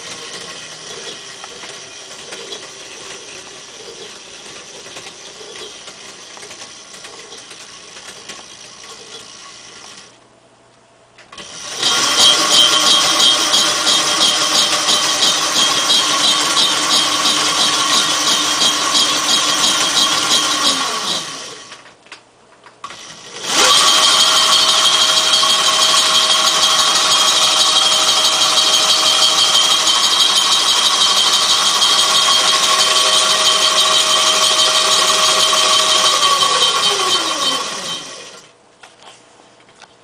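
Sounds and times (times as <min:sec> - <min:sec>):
chain drivetrain motor whine: 0:00.0 - 0:10.2, 0:11.3 - 0:21.9, 0:22.8 - 0:38.5.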